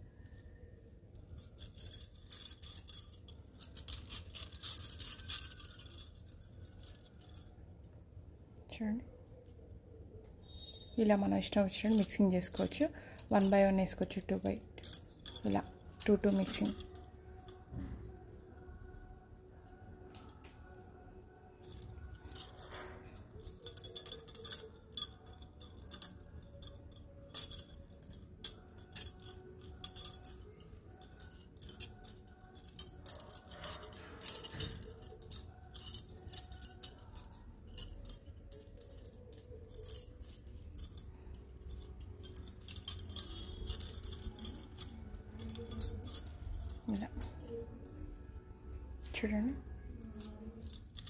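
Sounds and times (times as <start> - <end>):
glass bangles clinking: 0.0 - 7.7, 10.4 - 51.0.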